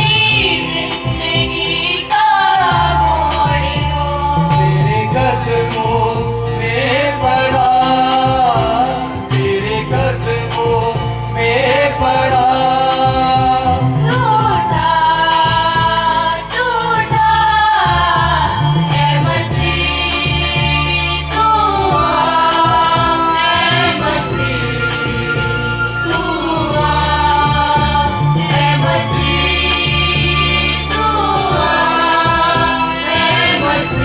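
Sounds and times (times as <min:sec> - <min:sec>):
electronic keyboard accompaniment: 0:00.0 - 0:34.0
group singing in unison: 0:00.0 - 0:34.0.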